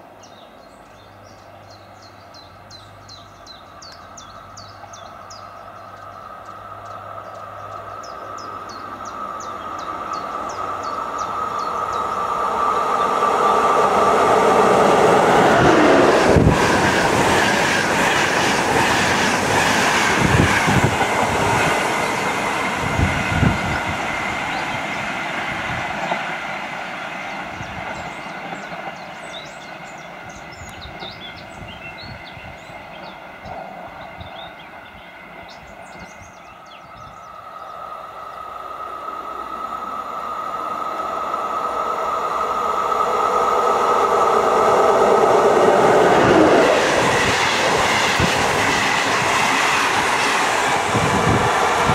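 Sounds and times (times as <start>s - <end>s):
train passing at speed: 0.0s - 51.9s.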